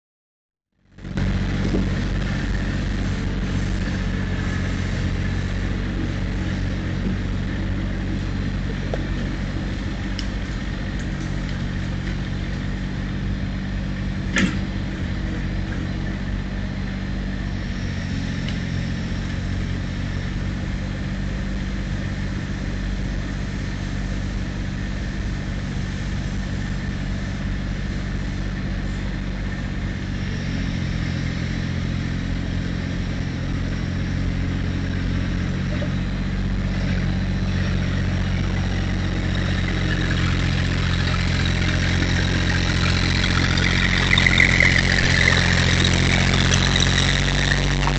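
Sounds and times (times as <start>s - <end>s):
tractor engine running: 0.8s - 47.9s.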